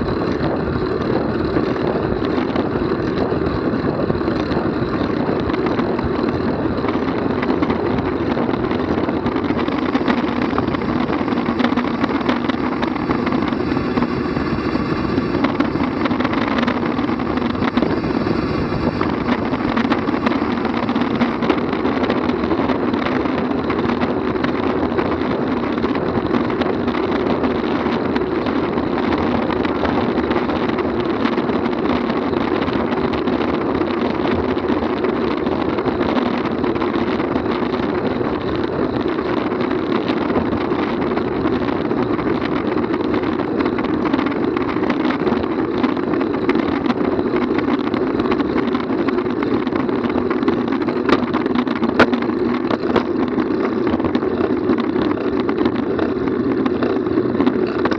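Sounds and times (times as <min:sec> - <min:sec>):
bicycle tyre noise: 0:00.0 - 0:57.9
wind rush: 0:00.0 - 0:57.9.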